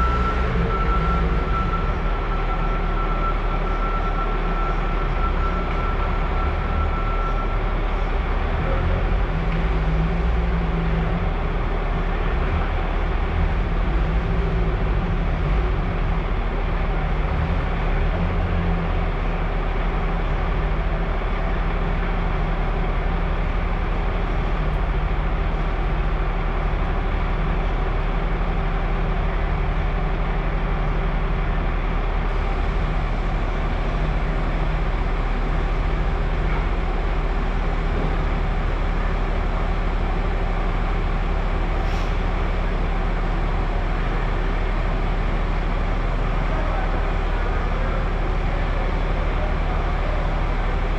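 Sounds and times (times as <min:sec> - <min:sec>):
heavy machinery droning: 0:00.0 - 0:50.9.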